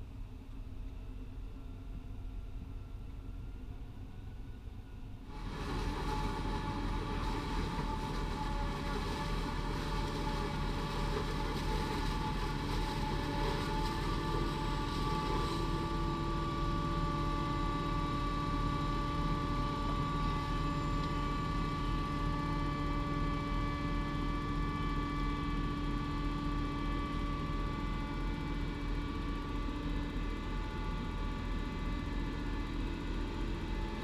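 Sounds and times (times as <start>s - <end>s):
steady whining tones: 0.0s - 34.0s
tractor engine drone: 0.0s - 34.0s.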